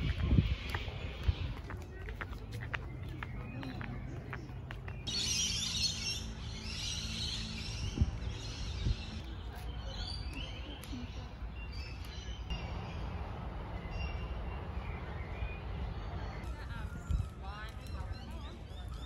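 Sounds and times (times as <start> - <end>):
birds chirping and twittering: 0.0 - 19.0.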